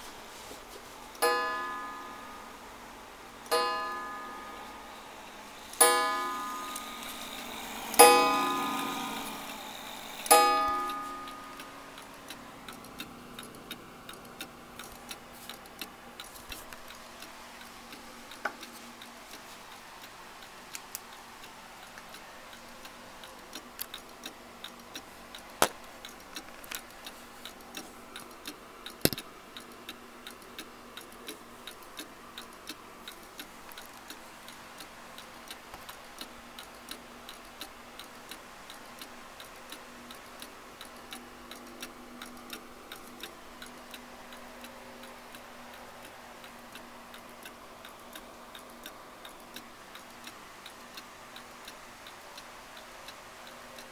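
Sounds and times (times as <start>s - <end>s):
clock ticking: 1.1s - 2.8s, 3.4s - 53.9s
sharp clock clicks: 3.4s - 19.1s, 19.7s - 53.9s.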